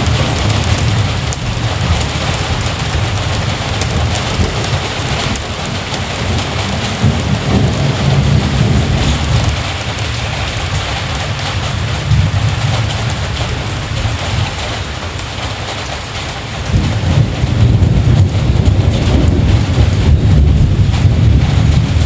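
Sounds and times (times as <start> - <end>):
heavy rain pouring: 0.0 - 22.0
rolling thunder rumble: 0.0 - 22.0.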